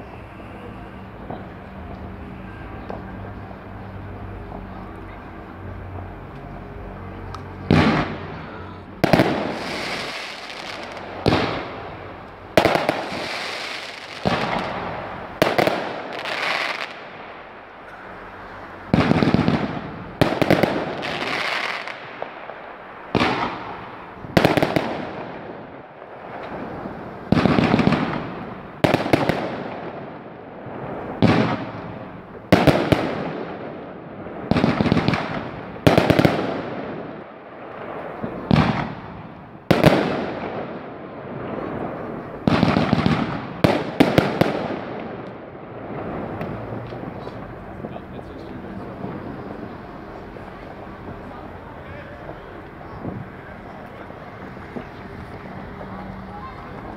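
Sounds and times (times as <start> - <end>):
fireworks bangs: 0.0 - 56.9
fireworks crackle and rumble: 0.0 - 56.9.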